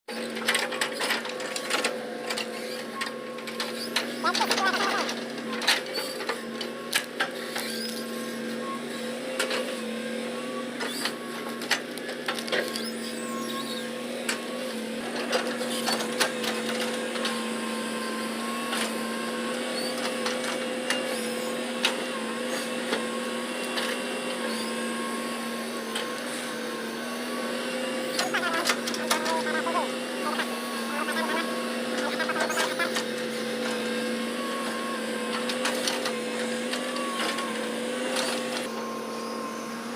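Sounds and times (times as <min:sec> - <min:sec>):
excavator engine and hydraulic hum: 0:00.1 - 0:39.9.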